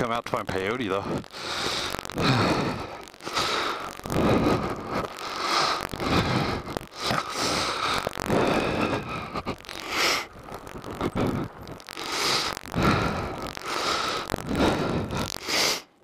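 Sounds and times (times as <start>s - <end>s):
gravel crunching underfoot: 0.6s - 15.2s
man panting: 1.3s - 10.3s, 11.0s - 15.9s.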